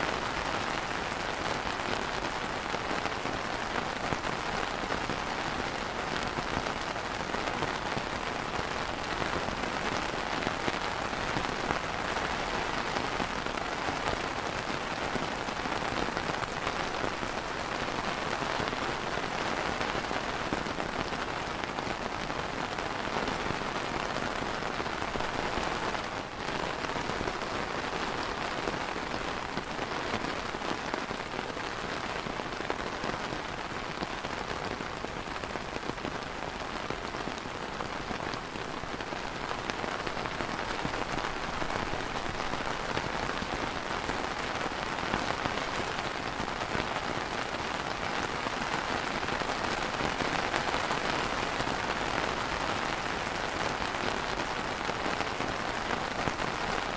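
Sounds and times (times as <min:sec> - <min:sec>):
rain on plastic umbrella: 0:00.0 - 0:56.9.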